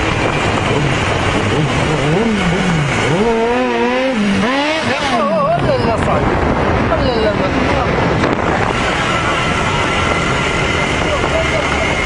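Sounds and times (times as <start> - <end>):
motorcycle engine revving: 0.0 - 12.0
wind and road noise: 0.0 - 12.0.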